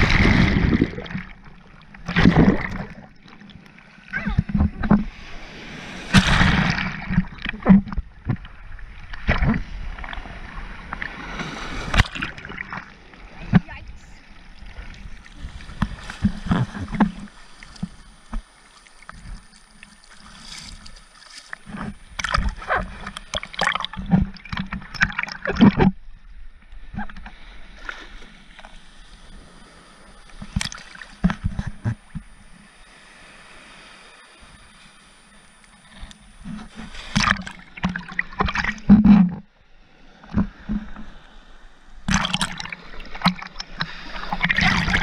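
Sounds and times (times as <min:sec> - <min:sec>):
sea water splashing: 0:00.0 - 0:45.0.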